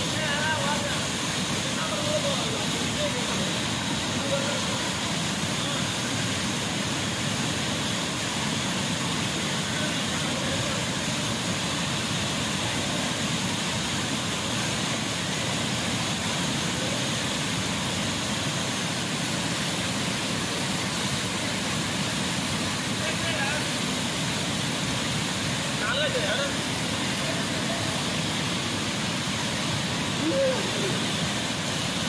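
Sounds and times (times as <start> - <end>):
whitewater rushing over rocks: 0.0 - 32.0.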